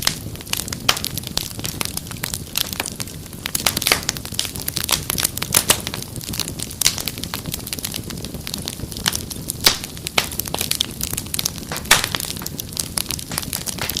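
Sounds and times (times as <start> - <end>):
fireplace fire crackling and popping: 0.0 - 14.0.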